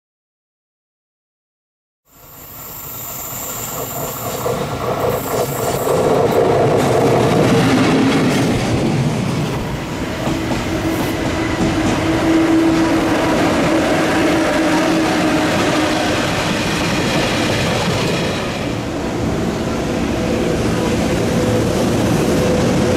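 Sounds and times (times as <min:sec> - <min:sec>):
freight train passing: 0:02.1 - 0:22.9.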